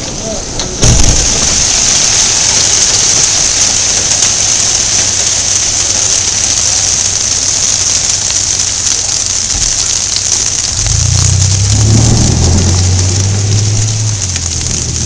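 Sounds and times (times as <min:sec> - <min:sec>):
heavy rain pelting down: 0:00.0 - 0:15.0
hailstones striking: 0:00.7 - 0:15.0.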